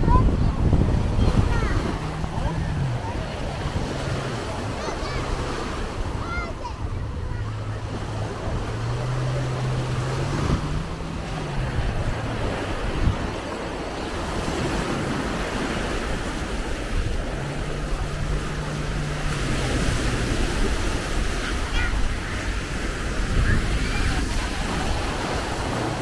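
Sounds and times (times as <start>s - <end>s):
low motor drone from watercraft: 0.0s - 26.0s
small waves breaking on beach: 0.0s - 26.0s.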